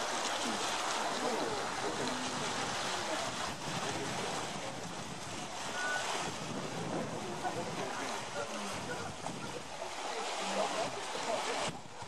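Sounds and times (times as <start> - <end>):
surf washing over rocks: 0.0 - 12.0.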